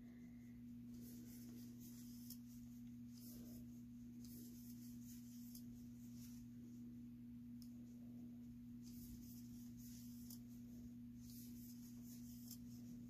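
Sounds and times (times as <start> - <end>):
crochet hook rustling yarn: 0.0 - 13.0
steady low hum: 0.0 - 13.0.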